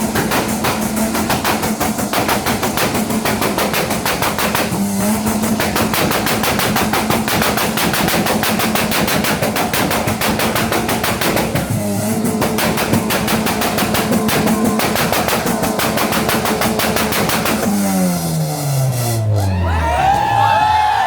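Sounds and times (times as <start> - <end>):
car engine pops and bangs: 0.0 - 18.4.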